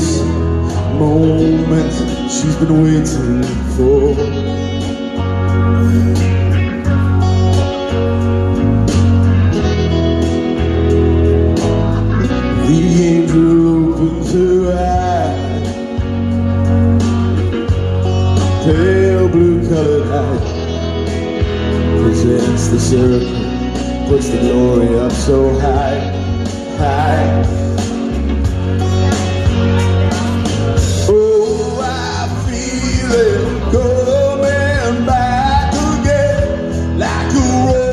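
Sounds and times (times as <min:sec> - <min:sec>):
man singing into a microphone: 0:00.0 - 0:08.2, 0:11.7 - 0:16.8, 0:17.6 - 0:28.0, 0:28.8 - 0:37.9
bass notes: 0:00.0 - 0:37.9
guitar: 0:00.0 - 0:37.9.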